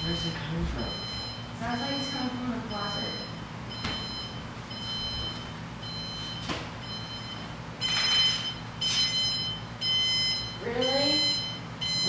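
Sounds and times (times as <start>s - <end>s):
alarm clock beeping: 0.0s - 12.0s.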